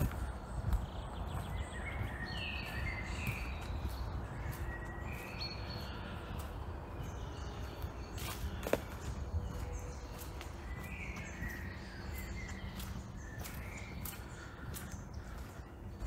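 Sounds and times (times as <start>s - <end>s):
footsteps on dirt path: 0.0s - 16.0s
songbird singing: 0.0s - 16.0s
steady low rumble: 0.0s - 16.0s.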